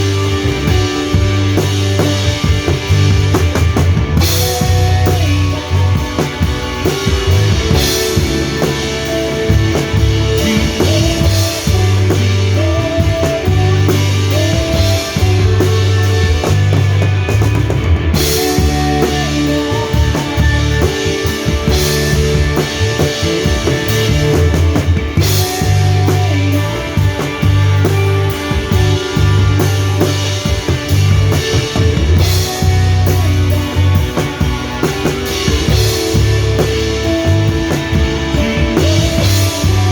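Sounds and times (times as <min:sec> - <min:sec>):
higher melody line: 0:00.0 - 0:39.9
rock worship song band: 0:00.0 - 0:39.9
sustained bass line: 0:00.0 - 0:39.9.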